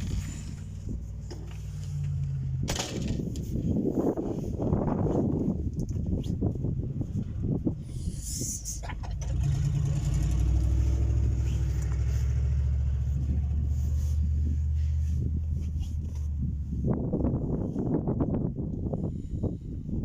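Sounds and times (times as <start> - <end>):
engine humming: 0.0 - 18.7.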